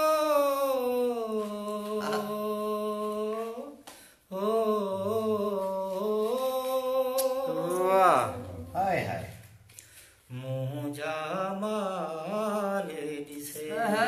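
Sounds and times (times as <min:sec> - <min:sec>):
man singing poetry: 0:00.0 - 0:09.1, 0:10.3 - 0:14.0.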